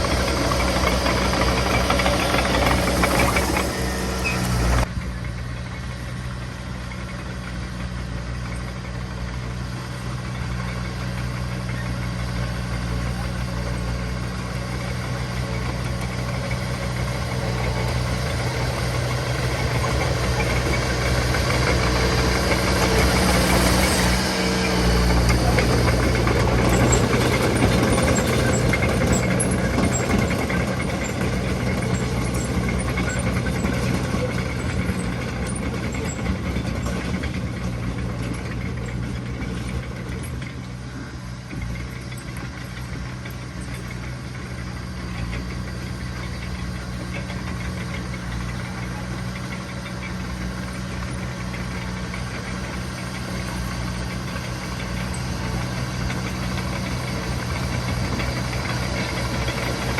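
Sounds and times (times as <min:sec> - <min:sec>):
diesel machine engine running: 0:00.0 - 0:59.9.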